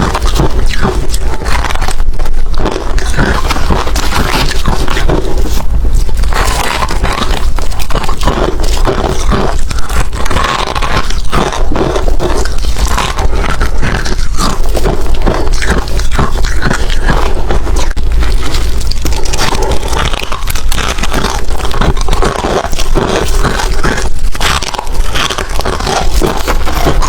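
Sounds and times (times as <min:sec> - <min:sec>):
ice crunching being chewed: 0:00.0 - 0:27.0.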